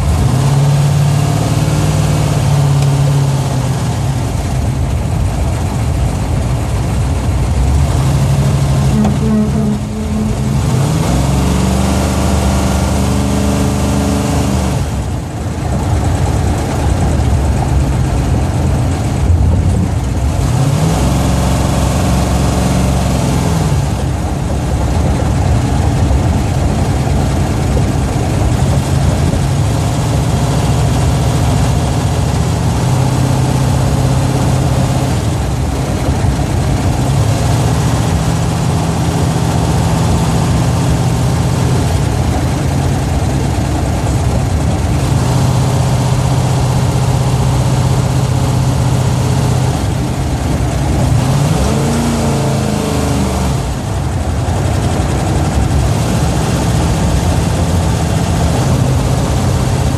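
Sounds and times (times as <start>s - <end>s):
car engine revving: 0.0s - 59.9s
road noise: 0.0s - 59.9s.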